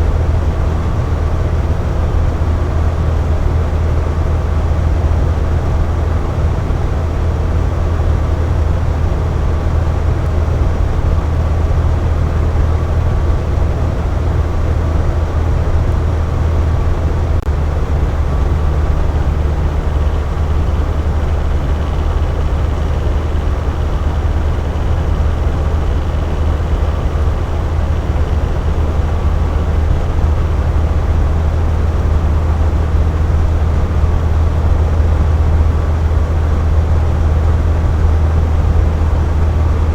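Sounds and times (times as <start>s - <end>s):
box fan humming: 0.0s - 39.9s.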